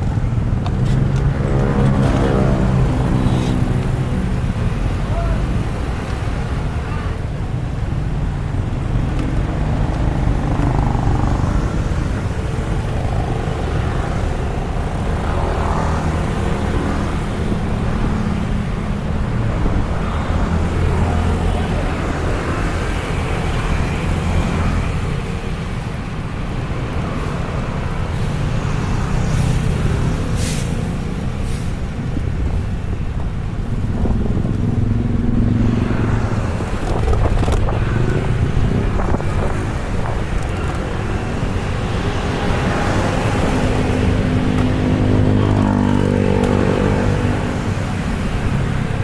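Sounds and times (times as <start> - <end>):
wind on microphone: 0.0 - 28.6, 29.6 - 49.0
road traffic rumble: 0.0 - 49.0.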